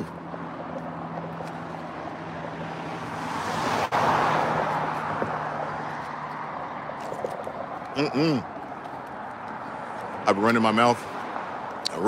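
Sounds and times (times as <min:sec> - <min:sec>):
vehicle passing by: 0:00.0 - 0:11.8.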